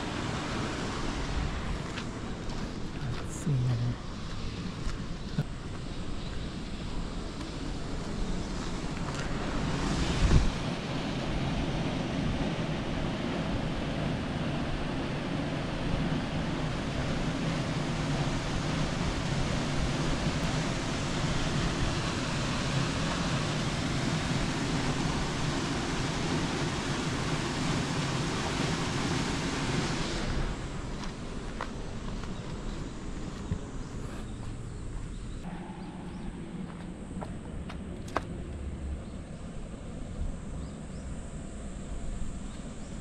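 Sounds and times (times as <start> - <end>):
outdoor rushing noise: 0.0 - 43.0.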